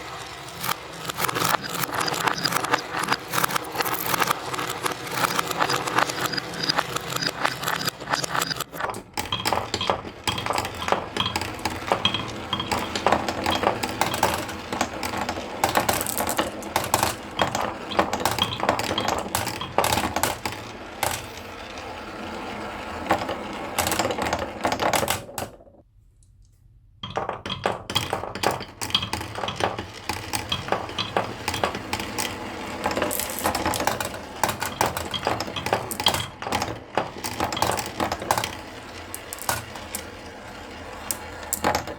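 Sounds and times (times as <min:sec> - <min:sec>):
marbles rolling down wooden run: 0:00.0 - 0:25.6, 0:27.1 - 0:41.9.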